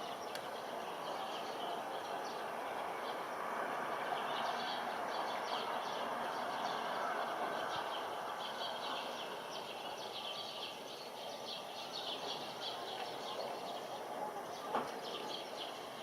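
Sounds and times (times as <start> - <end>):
distant outdoor background noise: 0.0 - 16.0
small birds chirping: 0.0 - 16.0.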